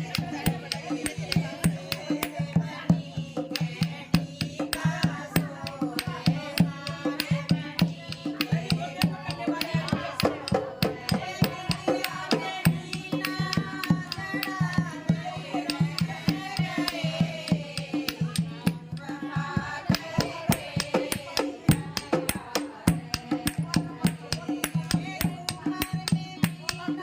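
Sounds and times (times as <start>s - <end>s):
quick percussion beat: 0.0s - 27.0s.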